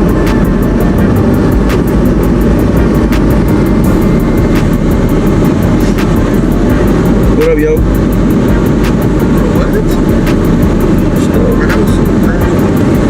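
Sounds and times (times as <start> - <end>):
road noise: 0.0 - 13.0
wind noise: 0.0 - 13.0.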